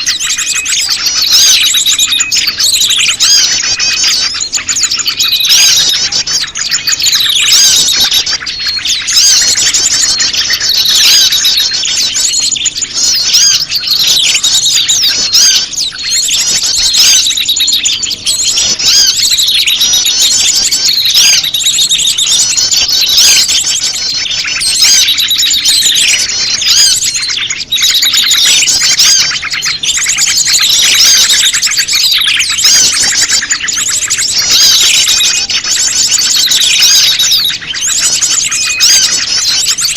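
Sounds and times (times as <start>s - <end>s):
falling sweeping bird calls: 0.0s - 39.9s
small birds chirping and trilling: 0.0s - 39.9s.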